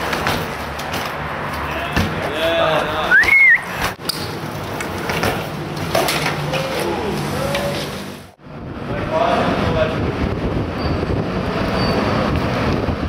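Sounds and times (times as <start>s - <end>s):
low traffic hum: 0.0s - 13.0s.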